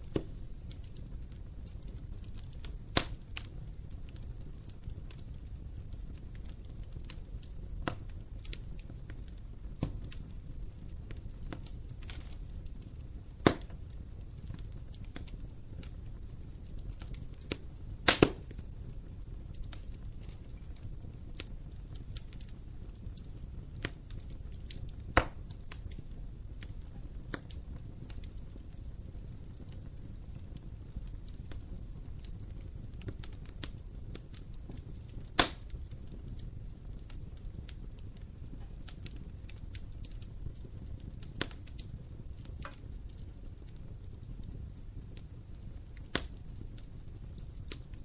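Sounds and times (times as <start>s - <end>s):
low rumble of flames: 0.0s - 48.0s
wood fire crackling: 0.0s - 48.0s.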